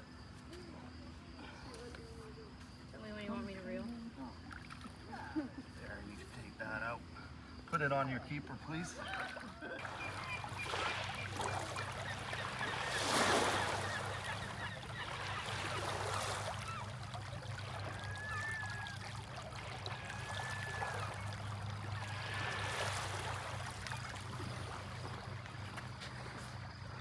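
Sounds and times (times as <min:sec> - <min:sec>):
creek water running: 0:03.0 - 0:27.0.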